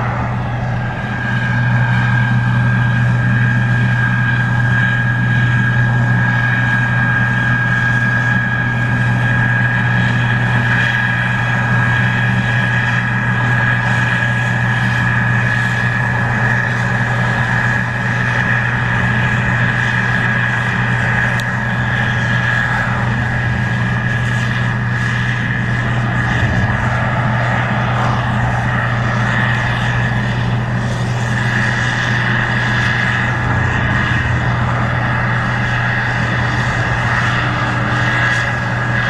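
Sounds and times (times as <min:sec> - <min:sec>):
combine engine drone: 0:00.0 - 0:39.0
high whine: 0:00.0 - 0:39.0.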